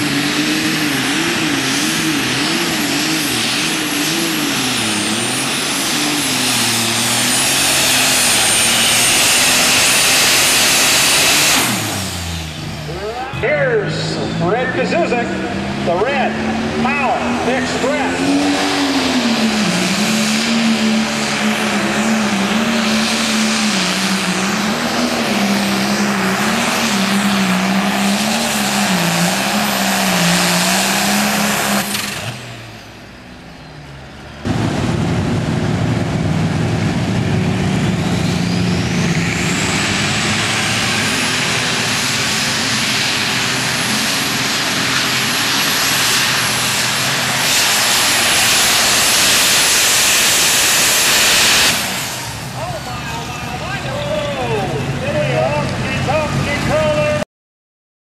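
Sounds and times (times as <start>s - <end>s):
diesel tractor engine at full power: 0.0s - 57.2s
turbocharger whine: 0.0s - 57.2s.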